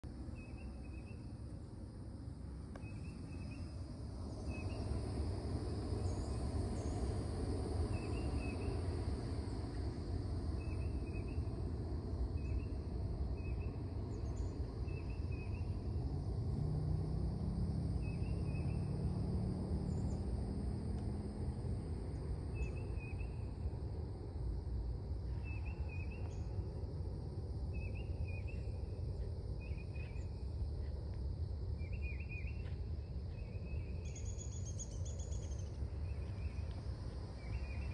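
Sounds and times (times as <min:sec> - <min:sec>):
faint low hum: 0:00.0 - 0:37.9.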